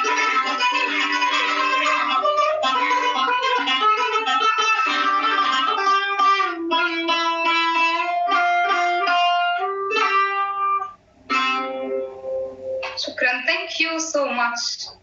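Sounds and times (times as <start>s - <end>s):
plucked lute solo: 0.0s - 12.9s.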